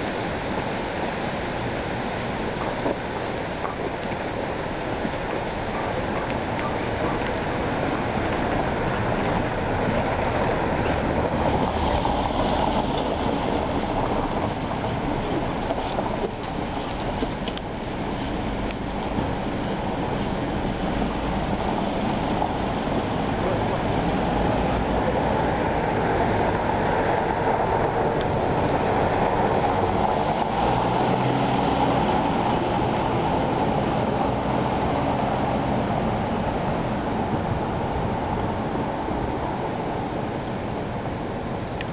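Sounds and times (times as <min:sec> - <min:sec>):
faint low engine hum: 0:00.0 - 0:41.9
rushing stream water: 0:00.0 - 0:41.9.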